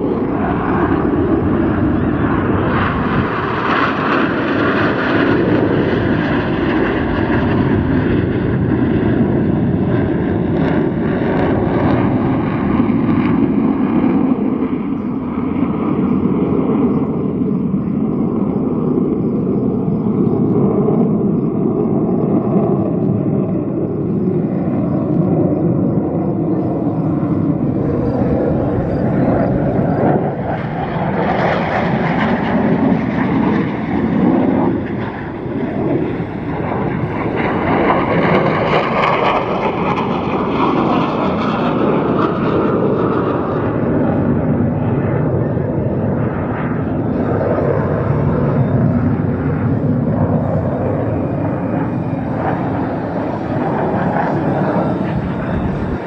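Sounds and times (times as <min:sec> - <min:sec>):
jet roar: 0:00.0 - 0:56.0.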